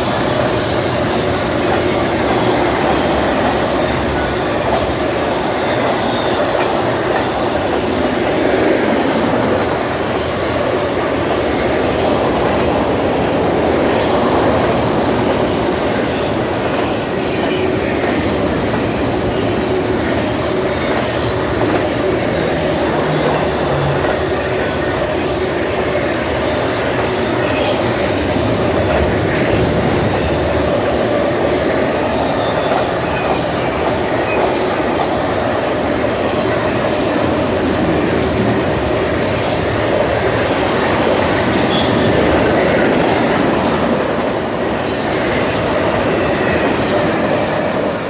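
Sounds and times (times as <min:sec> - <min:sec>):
train wheels clattering on rails: 0:00.0 - 0:48.0.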